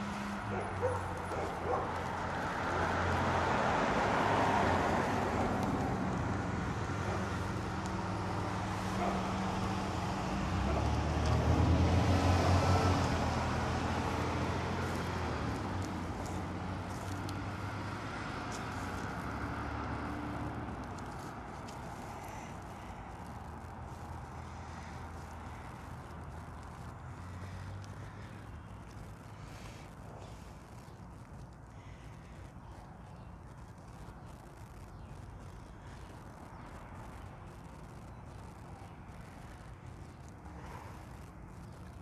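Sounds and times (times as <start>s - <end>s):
vehicles driving past: 0.0s - 42.0s.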